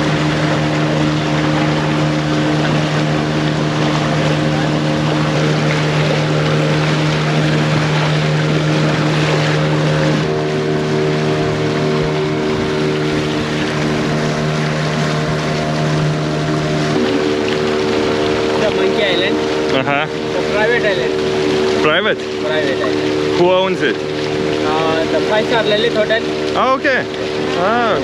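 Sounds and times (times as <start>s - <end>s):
outboard motor humming: 0.0s - 28.0s
water splashing along hull: 0.0s - 28.0s.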